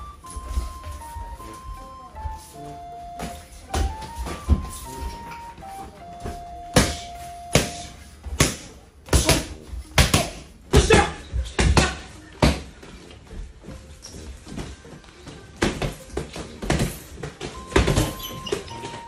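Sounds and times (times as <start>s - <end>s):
faint music: 0.0s - 19.0s.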